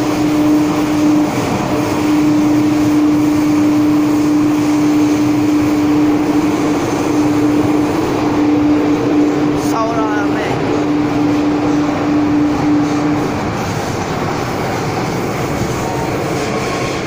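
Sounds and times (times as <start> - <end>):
steady hum: 0.0 - 17.0
train carriage rumble: 0.0 - 17.0.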